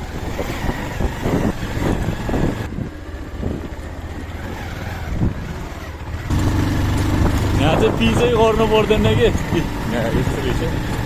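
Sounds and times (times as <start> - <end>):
motorcycle engine at low speed: 0.0 - 11.0
wind buffeting microphone: 0.0 - 11.0.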